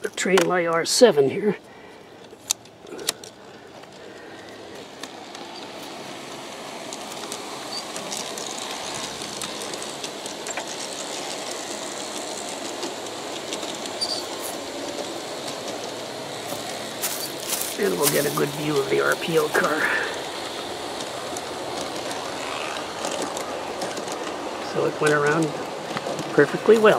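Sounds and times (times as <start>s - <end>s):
model train rumbling: 0.0s - 26.9s
wheels clicking on rails: 0.0s - 26.9s.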